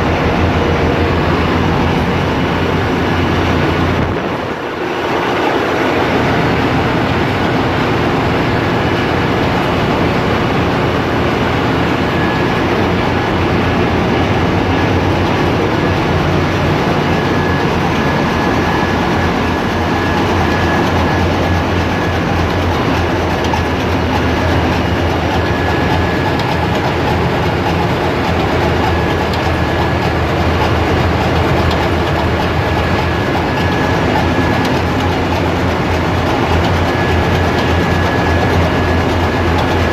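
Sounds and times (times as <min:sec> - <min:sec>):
deep machinery hum: 0:00.0 - 0:39.9
engine room machinery din: 0:00.0 - 0:39.9.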